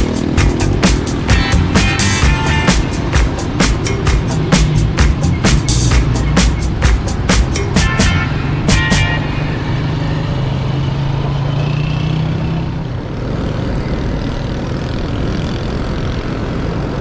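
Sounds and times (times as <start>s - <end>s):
vehicle road and engine noise: 0.0s - 17.0s.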